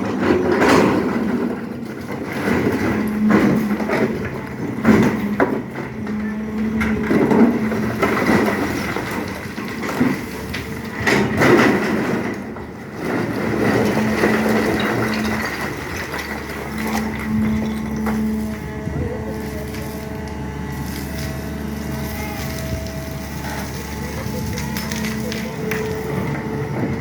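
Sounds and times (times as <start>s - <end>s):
excavator engine and hydraulic drone: 0.0s - 27.0s
bucket crunching soil and rock: 1.6s - 27.0s.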